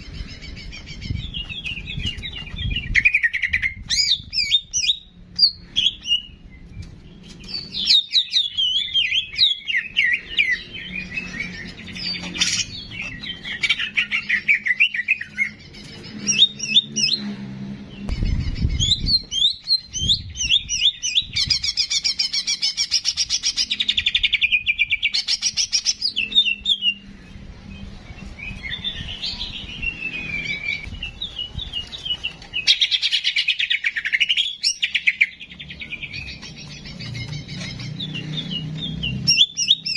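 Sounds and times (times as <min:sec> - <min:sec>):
songbird chirps and trills: 0:00.0 - 0:39.9.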